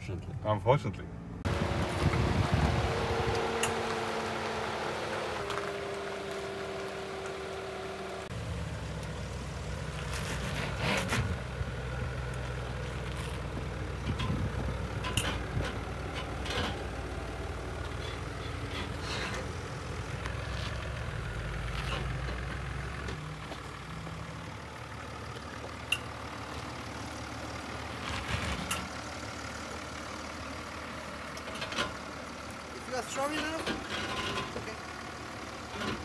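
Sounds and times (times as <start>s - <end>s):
engine idling low rumble: 0.0s - 36.0s.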